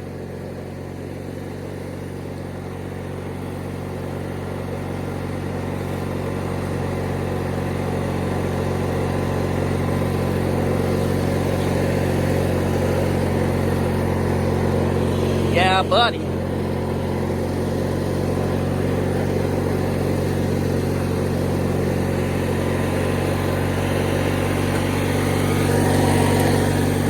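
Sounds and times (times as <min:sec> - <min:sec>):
riding lawnmower engine running: 0:00.0 - 0:27.0.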